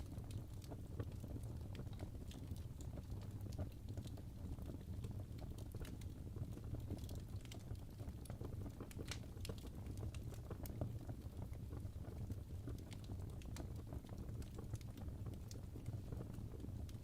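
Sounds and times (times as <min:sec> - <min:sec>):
logs crackling and popping: 0:00.0 - 0:17.0
wood fire burning: 0:00.0 - 0:17.0.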